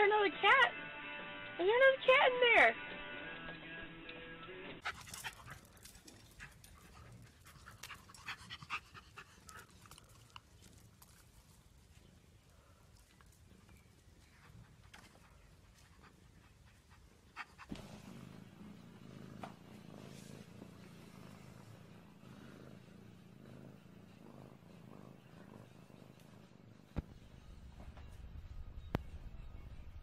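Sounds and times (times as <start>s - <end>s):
cat purring: 5.0s - 30.0s.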